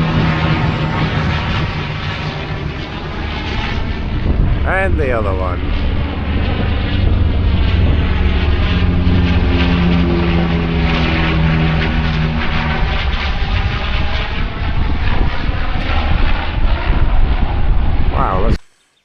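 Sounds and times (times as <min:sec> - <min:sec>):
propeller plane engines droning: 0:00.0 - 0:19.0.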